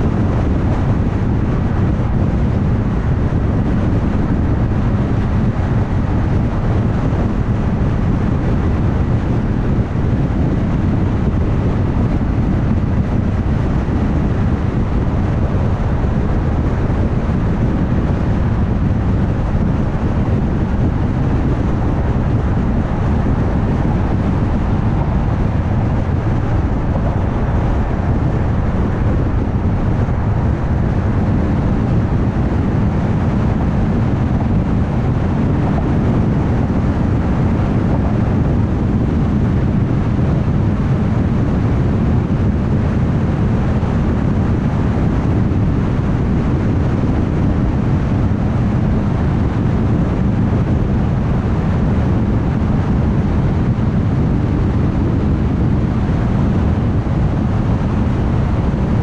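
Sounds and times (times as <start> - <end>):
tyres rumbling on road: 0.0 - 59.0
wind noise: 0.0 - 59.0.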